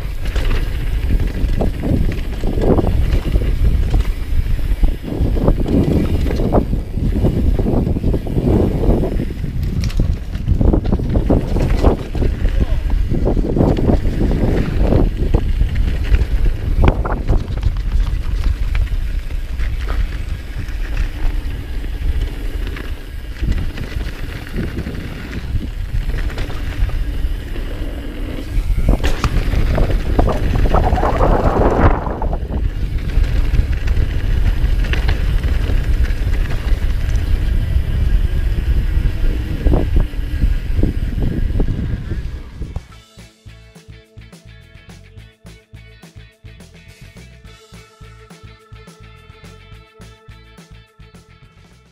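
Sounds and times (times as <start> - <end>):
wind rushing over microphone: 0.0 - 42.9
bike knocking and rattling: 0.0 - 43.0
bike tyre noise on dirt: 0.0 - 45.3.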